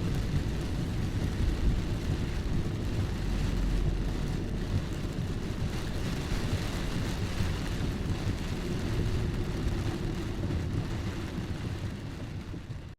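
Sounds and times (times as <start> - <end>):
deep low rumble: 0.0 - 12.9
steady rain hiss: 0.0 - 12.9.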